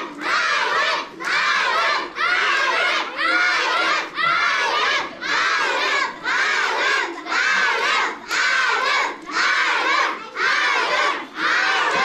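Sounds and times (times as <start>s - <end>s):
children chanting and shouting: 0.0s - 12.0s.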